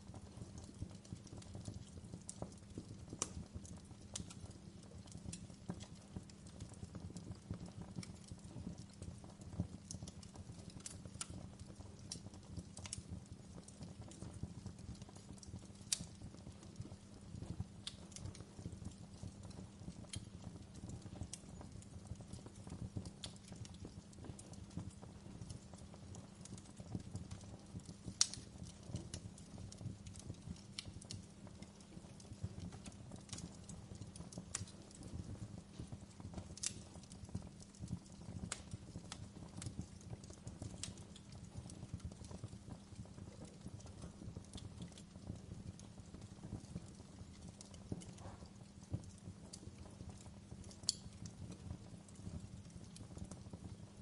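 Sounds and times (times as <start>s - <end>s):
fire crackling and popping: 0.0s - 54.0s
low fire rumble: 0.0s - 54.0s.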